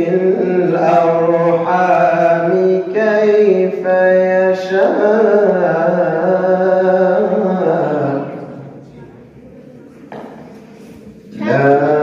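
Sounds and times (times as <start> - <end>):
man chanting over a microphone: 0.0 - 9.0, 11.2 - 12.0.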